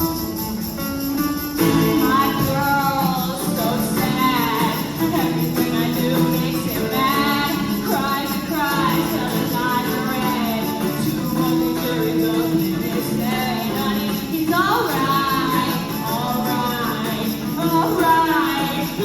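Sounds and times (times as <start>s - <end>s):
strummed guitar: 0.0s - 19.0s
woman singing: 1.6s - 19.0s.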